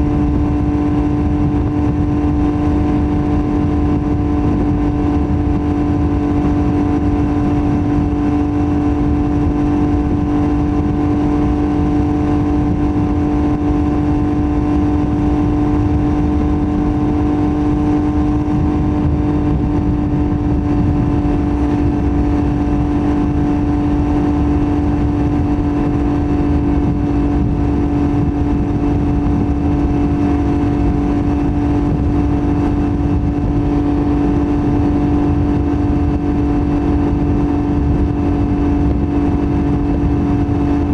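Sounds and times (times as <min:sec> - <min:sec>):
motorcycle engine steady note: 0:00.0 - 0:40.9.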